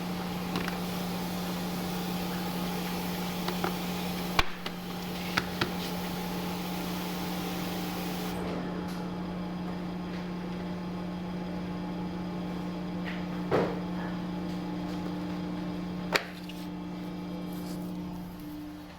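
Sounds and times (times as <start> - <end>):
guillotine motor hum: 0.0 - 18.9.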